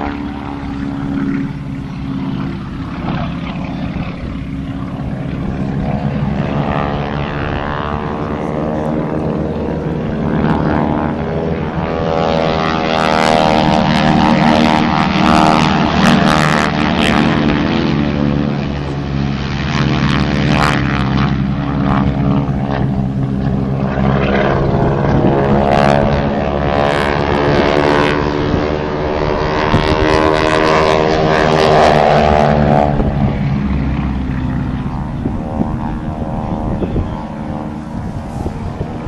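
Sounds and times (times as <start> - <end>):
propeller plane engines droning: 0.0 - 39.0.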